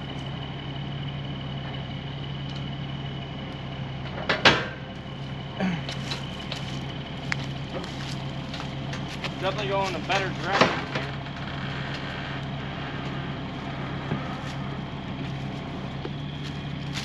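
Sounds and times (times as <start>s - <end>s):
truck engine and hydraulics humming: 0.0s - 17.0s.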